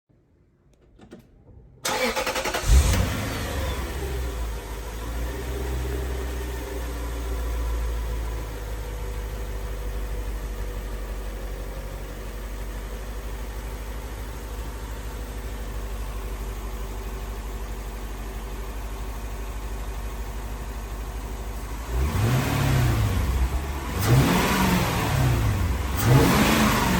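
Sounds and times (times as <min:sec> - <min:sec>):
car engine starting and idling: 0:00.7 - 0:26.9.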